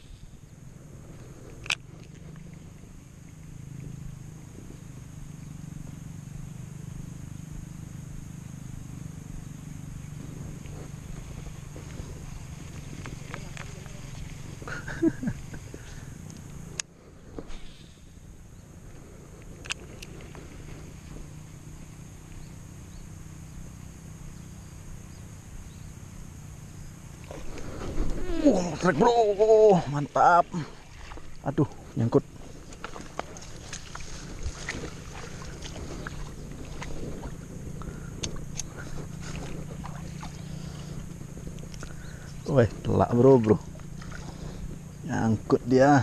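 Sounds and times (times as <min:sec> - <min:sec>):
high-pitched insect drone: 0:00.0 - 0:46.0
low steady hum: 0:00.0 - 0:46.0.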